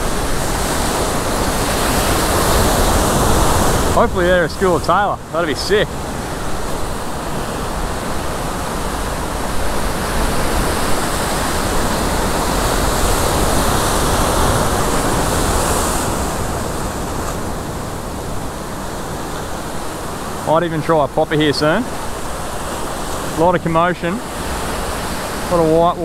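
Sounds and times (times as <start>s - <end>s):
ocean surf breaking over rocks: 0.0s - 26.0s.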